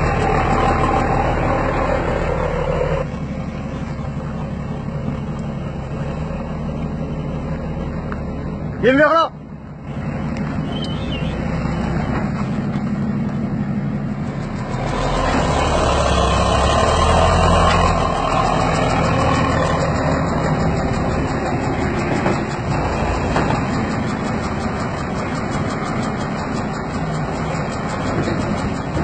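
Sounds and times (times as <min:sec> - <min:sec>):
truck diesel engine running: 0:00.0 - 0:29.0.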